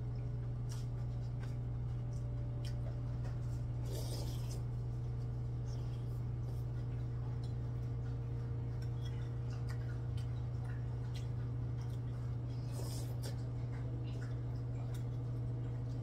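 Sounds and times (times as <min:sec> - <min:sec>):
quiet chewing: 0:00.0 - 0:16.0
steady low hum: 0:00.0 - 0:16.0.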